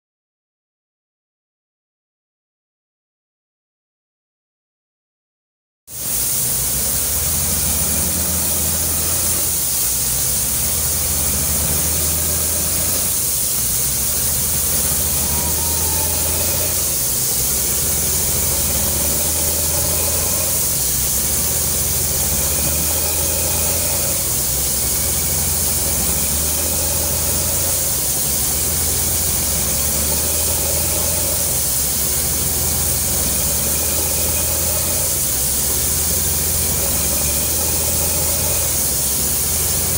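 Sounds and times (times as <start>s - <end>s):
compressed air hissing: 5.9s - 39.9s
drilling rig engine running: 5.9s - 39.9s.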